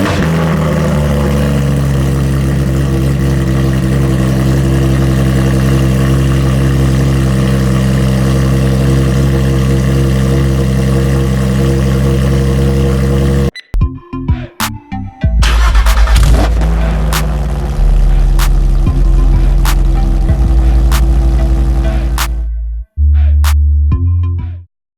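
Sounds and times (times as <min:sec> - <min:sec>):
car engine idling loudly: 0:00.0 - 0:13.5, 0:15.4 - 0:22.5.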